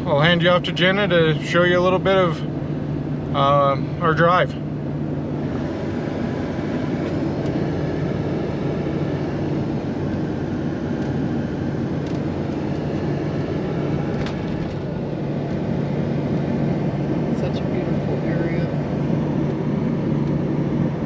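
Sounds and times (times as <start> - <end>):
tyre and road noise: 0.0 - 21.0
vehicle engine hum: 0.0 - 21.0.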